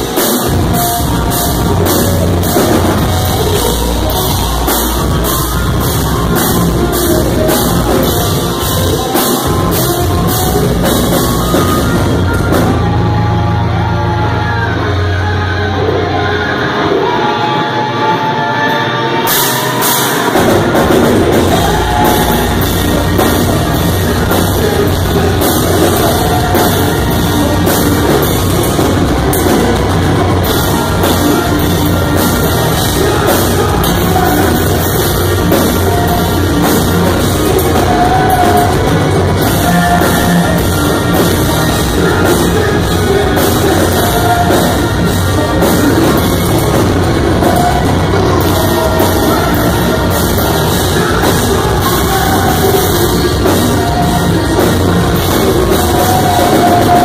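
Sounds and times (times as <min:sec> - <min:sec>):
heavy rock band playing: 0:00.0 - 0:57.0
person singing: 0:00.0 - 0:57.0.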